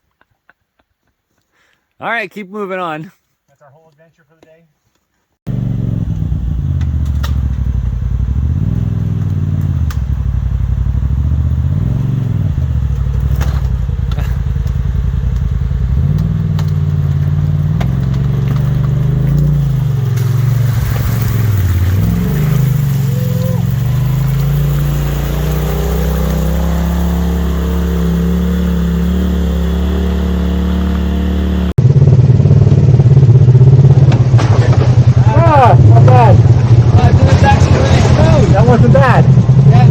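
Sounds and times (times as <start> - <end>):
off-road vehicle engine running: 5.5 - 39.9.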